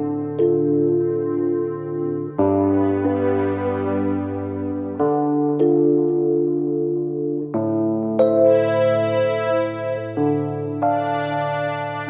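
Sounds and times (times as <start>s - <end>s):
electric piano and synthesizer chords: 0.0s - 12.0s.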